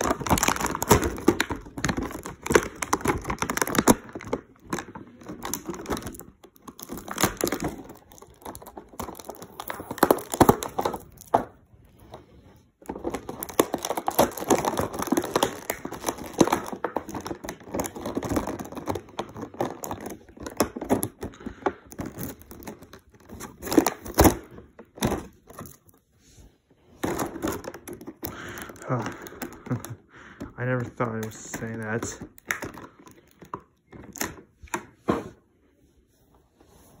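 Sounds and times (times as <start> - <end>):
plastic packaging crinkling: 0.0 - 26.2, 26.8 - 35.0.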